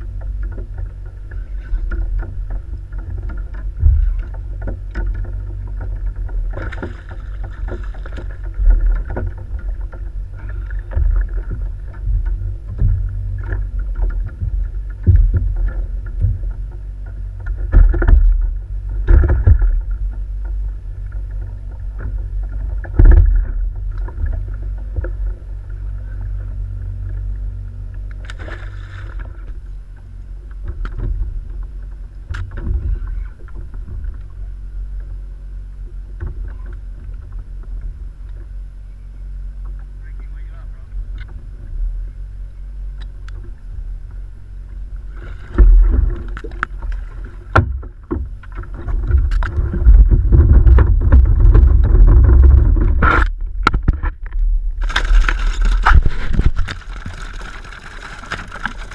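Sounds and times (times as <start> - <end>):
gear knocking against hull: 0.0 - 35.1, 45.5 - 58.9
wind and water rumble: 0.0 - 58.9.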